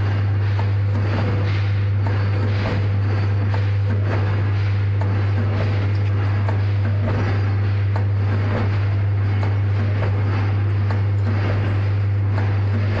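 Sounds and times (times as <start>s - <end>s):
packing machine low hum: 0.0s - 13.0s.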